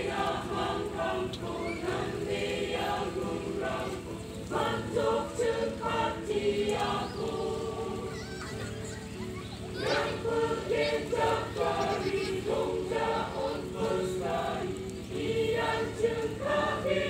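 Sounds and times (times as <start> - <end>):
mixed choir singing: 0.0 - 8.6, 9.7 - 17.0.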